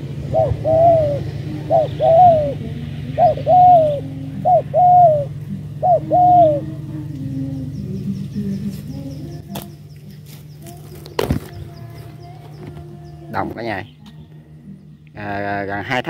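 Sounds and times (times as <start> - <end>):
dove cooing: 0.0 - 14.8.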